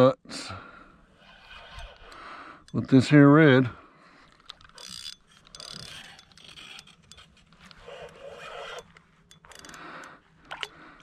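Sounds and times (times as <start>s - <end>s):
fishing reel scraping and clicking: 1.1s - 3.4s, 4.2s - 11.0s.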